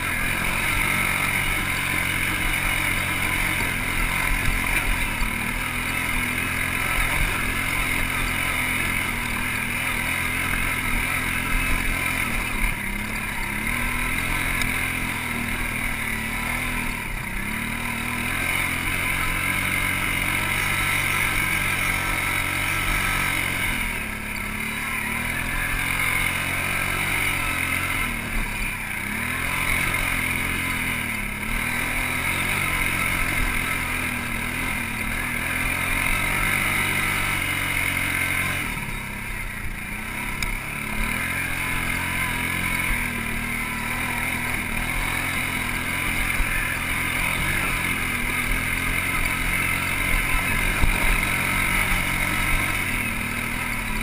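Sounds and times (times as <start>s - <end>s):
atv engine revving under load: 0.0s - 54.0s.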